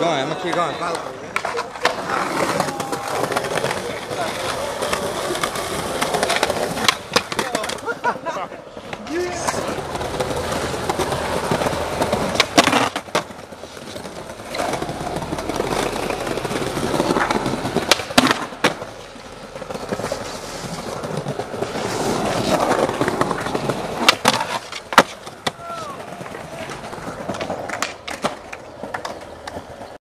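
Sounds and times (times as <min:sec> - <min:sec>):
skateboard clacks: 0:00.0 - 0:08.1, 0:08.7 - 0:30.0
skateboard wheels rolling on stone: 0:00.0 - 0:30.0.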